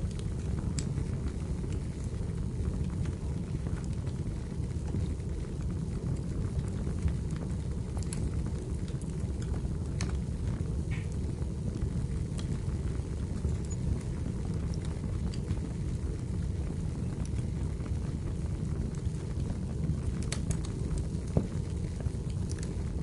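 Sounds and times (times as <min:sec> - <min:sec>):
fire crackles: 0:00.0 - 0:23.0
sharp fire pops: 0:00.0 - 0:23.0
wood fire burning: 0:00.0 - 0:23.0.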